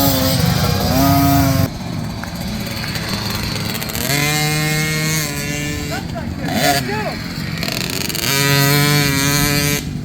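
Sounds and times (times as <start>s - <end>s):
dirt bike engines revving: 0.0s - 10.0s
engine high buzz: 0.0s - 10.0s.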